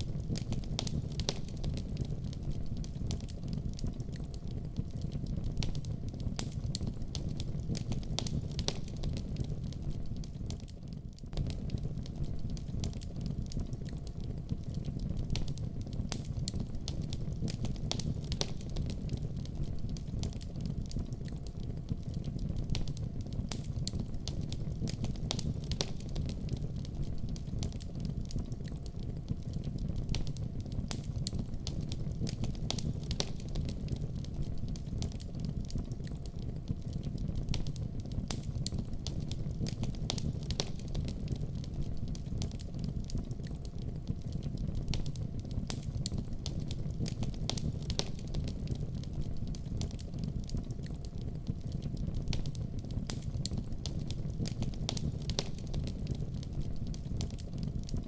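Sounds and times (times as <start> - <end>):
fire crackling and popping: 0.0 - 58.0
wood fire rumbling: 0.0 - 58.0.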